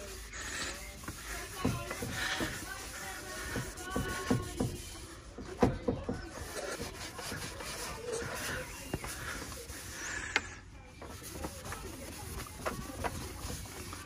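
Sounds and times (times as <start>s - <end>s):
cloth rubbing painted metal: 0.0s - 14.0s.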